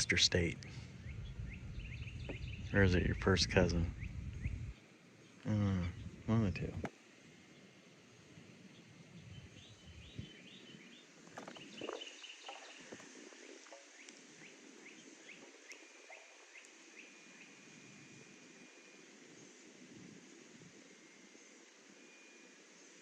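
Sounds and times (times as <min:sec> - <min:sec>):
birds chirping: 0:00.0 - 0:19.4
low background noise: 0:00.0 - 0:23.0.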